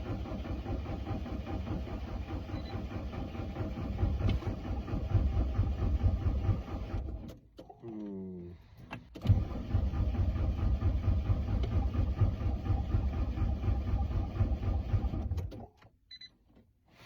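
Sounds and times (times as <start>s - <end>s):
diesel engine cranking by starter: 0.0s - 7.4s, 8.8s - 15.7s.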